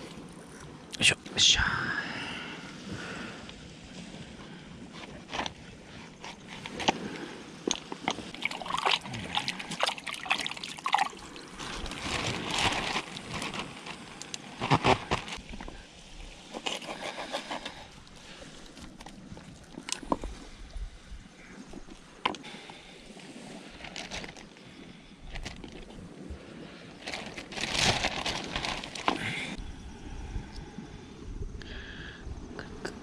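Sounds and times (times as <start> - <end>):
water sloshing and trickling: 2.8 - 29.6.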